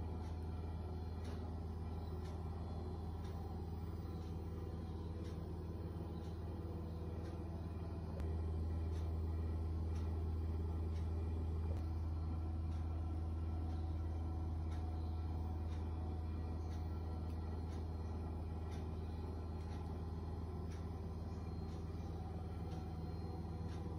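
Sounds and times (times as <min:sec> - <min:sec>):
faint steady tones: 0:00.0 - 0:23.9
steady low hum: 0:00.0 - 0:23.9.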